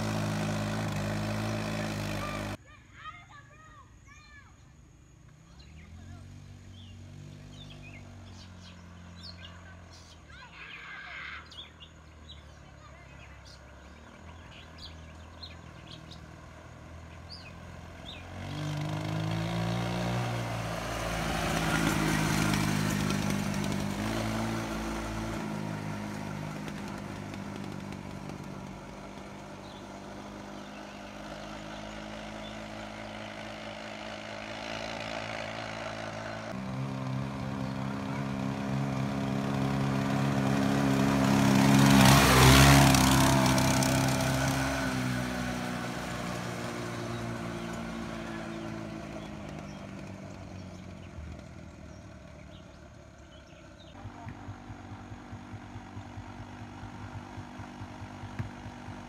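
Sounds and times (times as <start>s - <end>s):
go-kart engine running: 0.0s - 3.1s, 5.5s - 59.0s.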